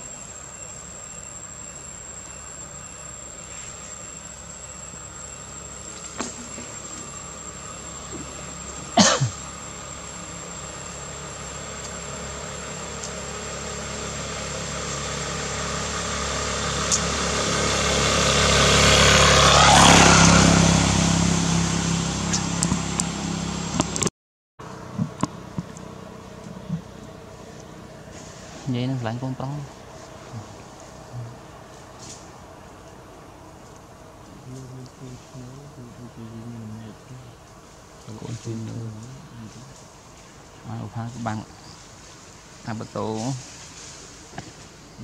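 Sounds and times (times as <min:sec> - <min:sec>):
motor vehicle passing by: 0:03.4 - 0:45.0.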